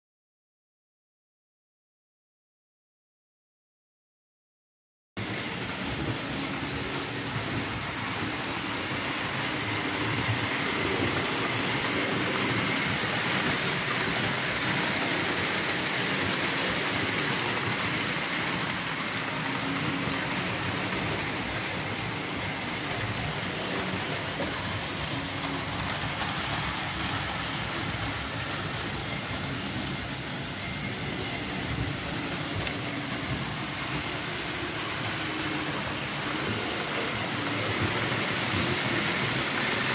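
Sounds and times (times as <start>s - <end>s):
model train clattering on metal track: 5.4s - 39.9s.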